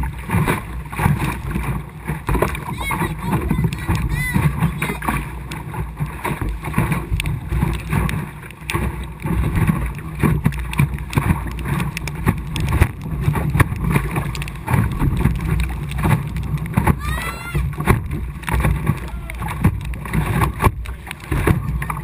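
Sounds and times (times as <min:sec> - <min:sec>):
water splashing against boat hull: 0:00.0 - 0:22.0
wind buffeting microphone: 0:00.0 - 0:22.0.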